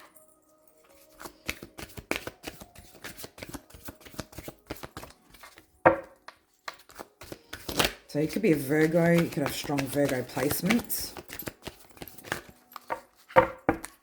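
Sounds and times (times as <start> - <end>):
cards being shuffled: 1.0 - 14.0.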